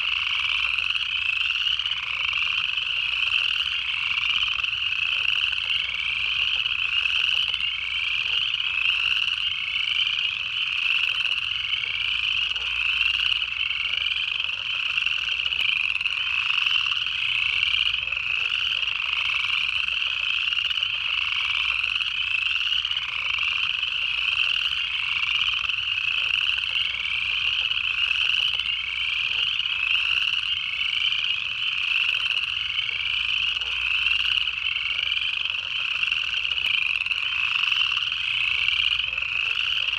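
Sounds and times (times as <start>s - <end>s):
frogs calling with trills: 0.0s - 39.9s.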